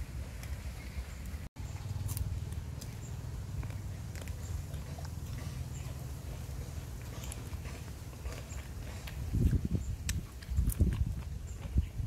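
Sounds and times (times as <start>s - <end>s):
crunchy chewing: 1.7s - 12.0s.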